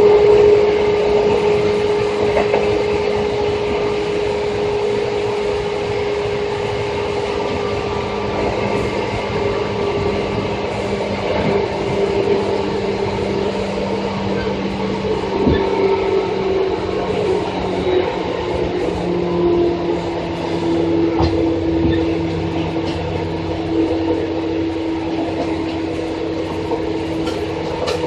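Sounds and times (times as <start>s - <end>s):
rumble of wheels on rail: 0.0s - 28.0s.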